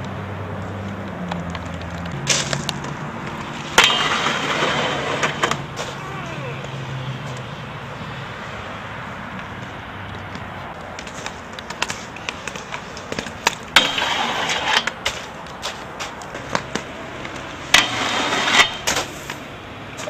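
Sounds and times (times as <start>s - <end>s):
skate clicks: 0.0s - 7.5s, 8.5s - 20.0s
inline skates rolling on concrete: 0.0s - 20.0s
skate grinding scrape: 0.6s - 7.4s, 8.5s - 20.0s.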